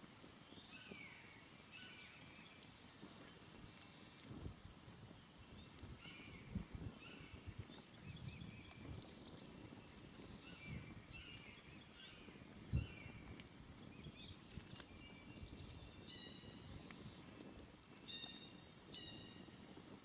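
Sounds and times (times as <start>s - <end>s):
campfire crackling and popping: 0.0s - 20.0s
small birds chirping: 0.1s - 20.0s.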